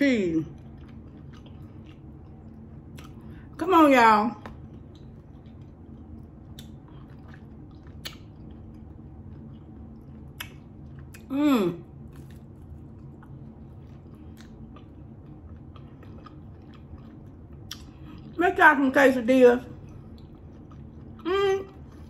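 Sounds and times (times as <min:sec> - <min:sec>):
person chewing and biting food: 0:00.5 - 0:03.5, 0:04.5 - 0:11.3, 0:11.9 - 0:18.4, 0:19.8 - 0:22.0.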